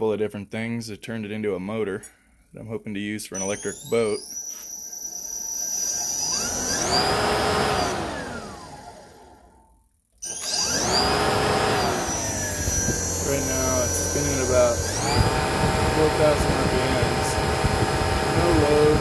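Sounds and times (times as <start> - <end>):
electric motor whine: 3.4 - 19.0.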